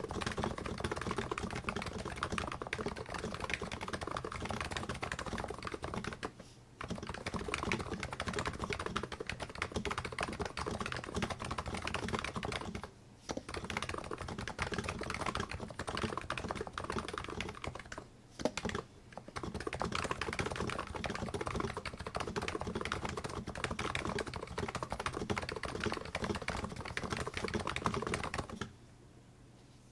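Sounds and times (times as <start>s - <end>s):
fast typing on keyboard: 0.0s - 28.7s.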